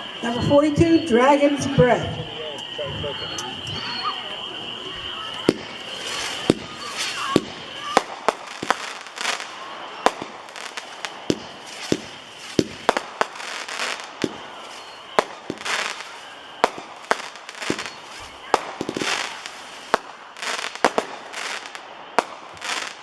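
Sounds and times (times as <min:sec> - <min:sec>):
crackling fireworks bursts: 0:00.0 - 0:23.0
fireworks launch and burst reports: 0:00.0 - 0:23.0.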